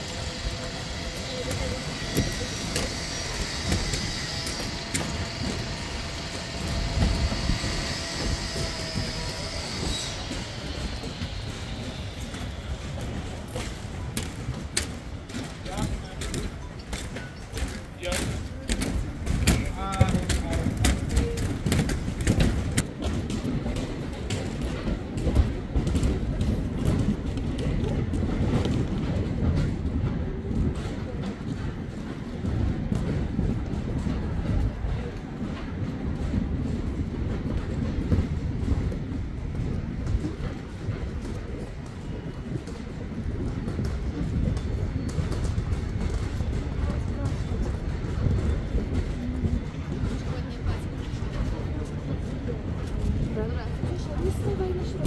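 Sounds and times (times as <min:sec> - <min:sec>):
train rumbling on tracks: 0:00.0 - 0:55.0.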